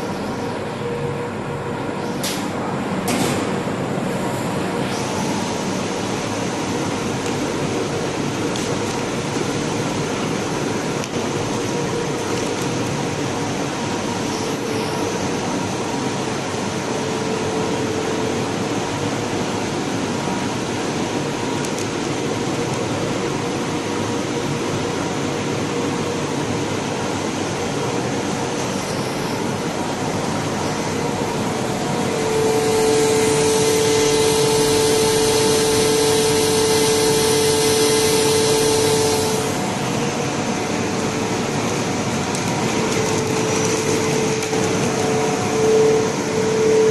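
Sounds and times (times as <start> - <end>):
louder hum with hiss: 0.0 - 46.9
vacuum pump running: 0.0 - 46.9.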